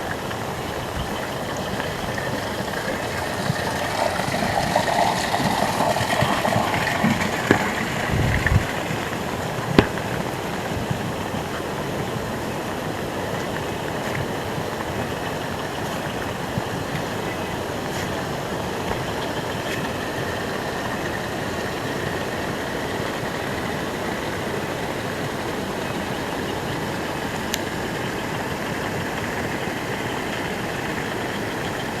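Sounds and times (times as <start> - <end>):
heavy rain falling: 0.0 - 32.0
raindrops ticking: 0.0 - 32.0.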